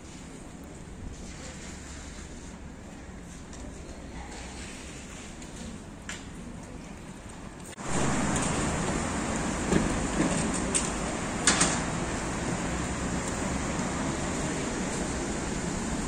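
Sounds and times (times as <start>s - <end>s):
city street traffic on wet road: 0.0s - 3.8s, 4.4s - 16.0s.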